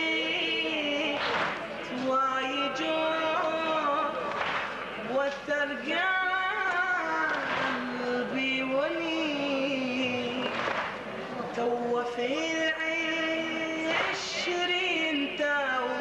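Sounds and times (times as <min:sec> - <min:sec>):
man chanting a lament: 0:00.0 - 0:10.6, 0:11.2 - 0:16.0.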